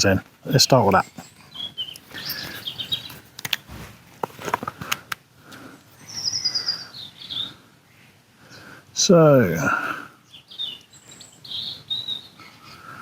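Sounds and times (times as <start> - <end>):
robin singing: 0.0 - 3.7, 5.9 - 13.0.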